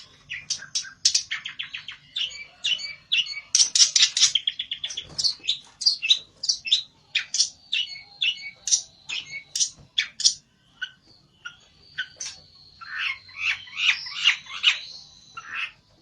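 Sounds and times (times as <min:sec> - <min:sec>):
songbird chirping and trilling: 0:00.0 - 0:16.0.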